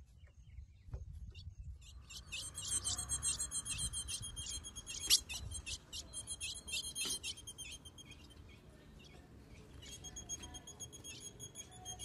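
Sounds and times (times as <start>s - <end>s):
bird chipping: 1.8s - 12.0s.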